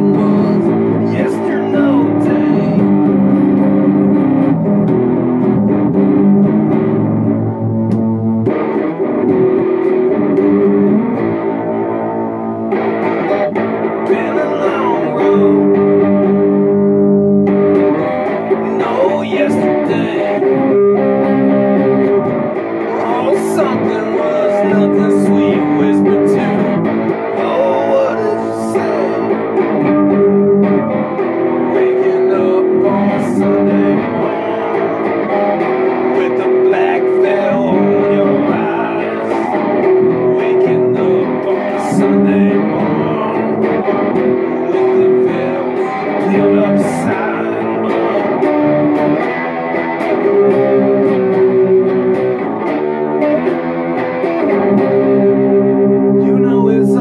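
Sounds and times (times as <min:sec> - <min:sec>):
guitar chords: 0:00.0 - 0:57.0.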